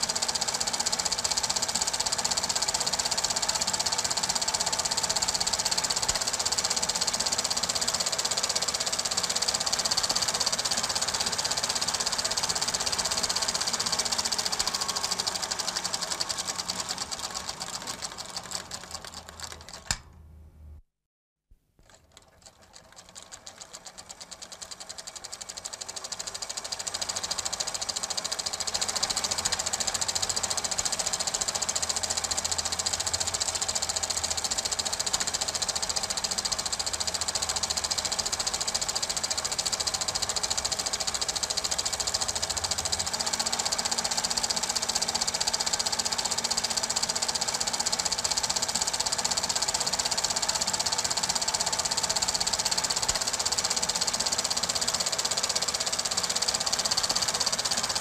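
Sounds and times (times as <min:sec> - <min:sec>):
film projector clattering: 0:00.0 - 0:20.1, 0:21.8 - 0:58.0.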